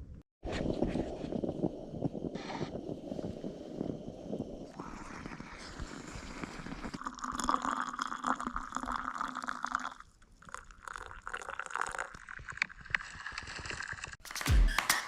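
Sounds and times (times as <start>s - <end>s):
liquid pouring: 1.4s - 13.6s.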